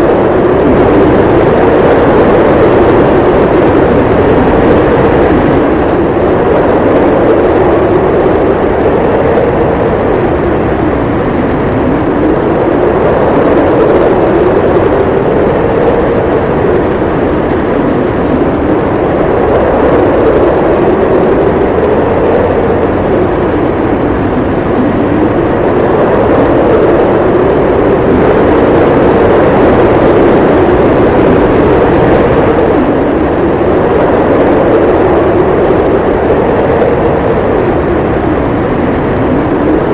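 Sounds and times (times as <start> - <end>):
howling blizzard wind: 0.0 - 39.9.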